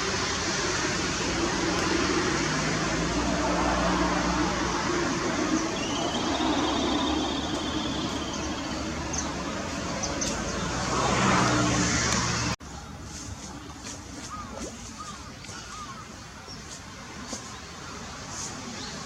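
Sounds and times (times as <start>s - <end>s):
quiet outdoor background: 0.0s - 19.0s
road traffic noise: 0.0s - 19.0s.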